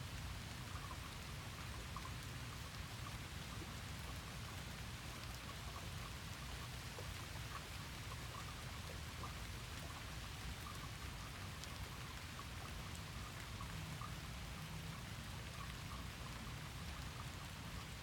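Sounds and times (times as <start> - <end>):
rain hiss: 0.0 - 18.0
small drips: 0.1 - 18.0.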